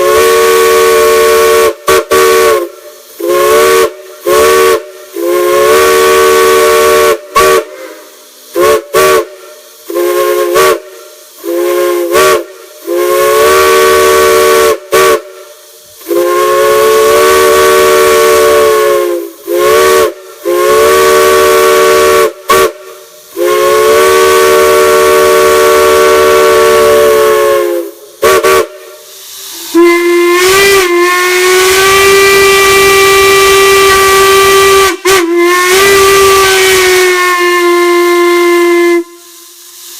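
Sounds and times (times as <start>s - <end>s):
steam hiss: 0.0s - 39.9s.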